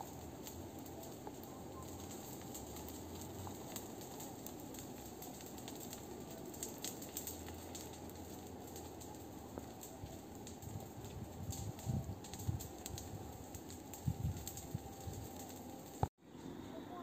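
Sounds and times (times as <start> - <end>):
brush fire crackling and popping: 0.0 - 16.2.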